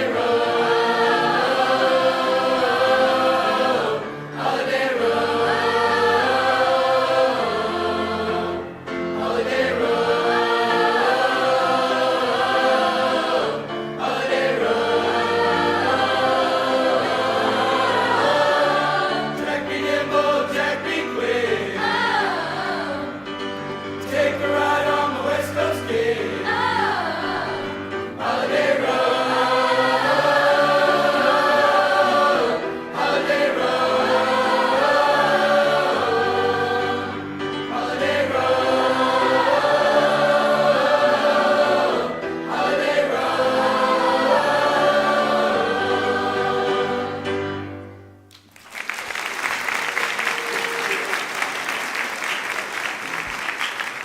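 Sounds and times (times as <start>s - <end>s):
vocal ensemble singing in harmony: 0.0s - 48.0s.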